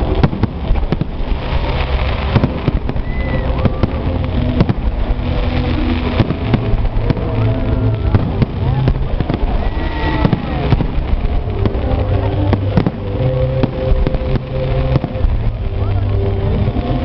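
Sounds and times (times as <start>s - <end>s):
continuous low rumble: 0.0s - 17.0s
fireworks bangs: 0.0s - 17.0s.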